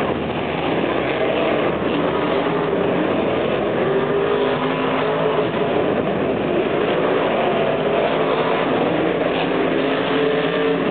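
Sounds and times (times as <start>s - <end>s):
monster truck engines rumbling: 0.0s - 10.9s.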